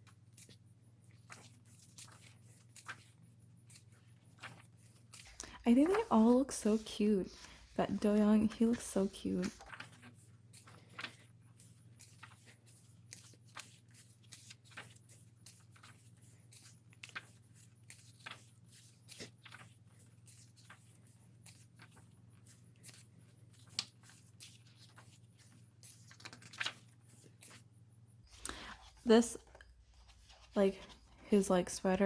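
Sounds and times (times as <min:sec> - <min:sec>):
pages rustling: 0:00.0 - 0:27.7, 0:28.3 - 0:31.4.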